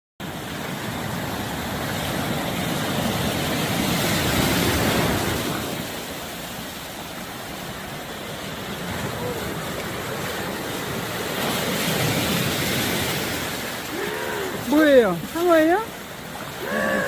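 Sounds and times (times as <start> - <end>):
sea surf washing: 0.2 - 17.0.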